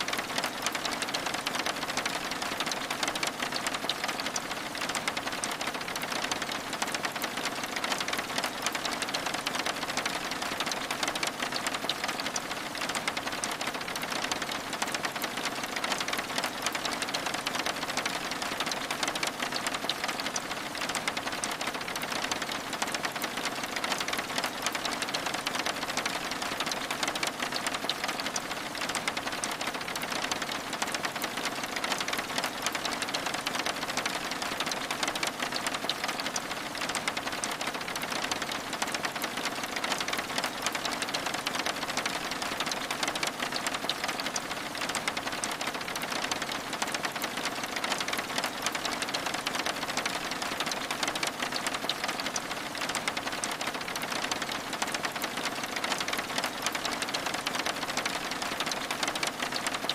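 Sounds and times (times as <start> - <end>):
rain pattering on window glass: 0.0 - 59.9.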